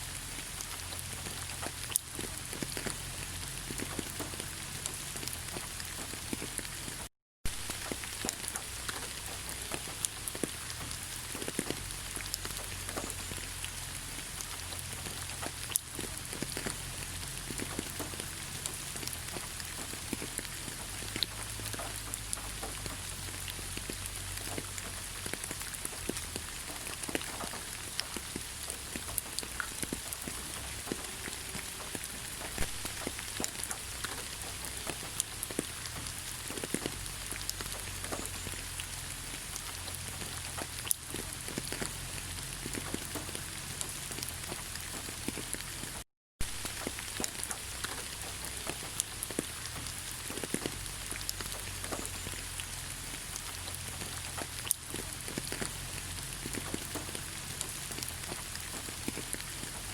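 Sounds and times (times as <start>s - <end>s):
rain falling in forest: 0.0s - 59.9s
single raindrops landing close: 0.2s - 59.9s.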